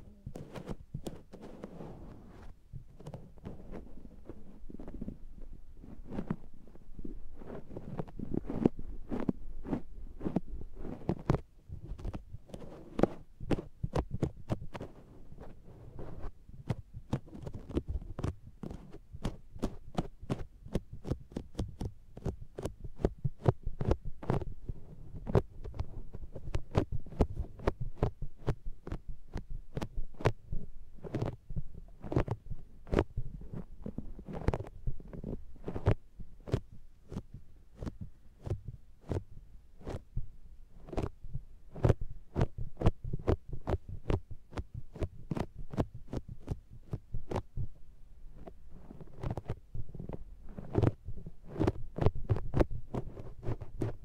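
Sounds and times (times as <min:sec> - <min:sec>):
makeup sponge suction pats: 0:05.8 - 0:47.8, 0:48.4 - 0:54.0.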